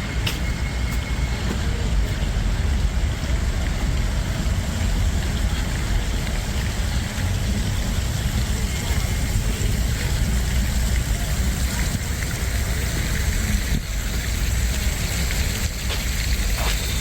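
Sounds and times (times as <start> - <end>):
low city rumble: 0.0 - 17.0
wet street hiss: 0.0 - 17.0.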